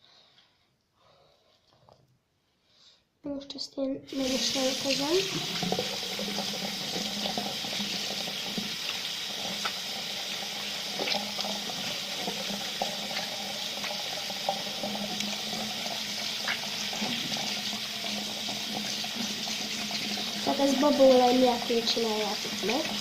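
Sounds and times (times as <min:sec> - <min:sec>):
tap water running into sink: 0:04.1 - 0:23.0.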